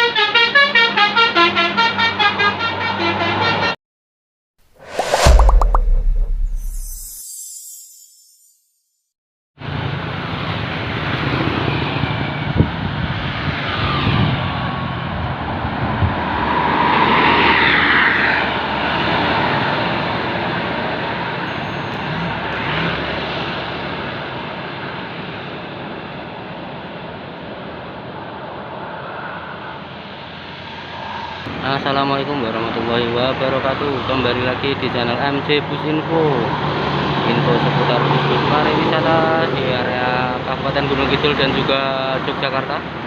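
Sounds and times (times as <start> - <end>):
road traffic noise: 0.0 - 3.8, 9.6 - 43.0.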